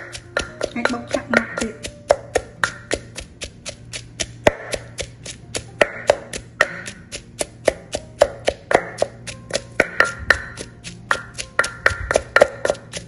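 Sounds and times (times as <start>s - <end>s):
pestle pounding in mortar: 0.0s - 13.0s.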